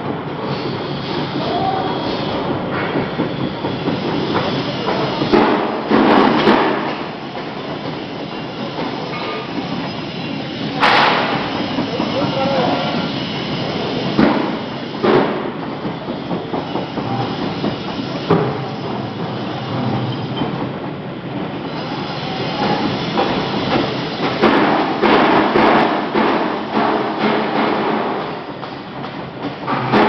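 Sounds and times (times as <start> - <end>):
machinery clattering: 0.0 - 30.0.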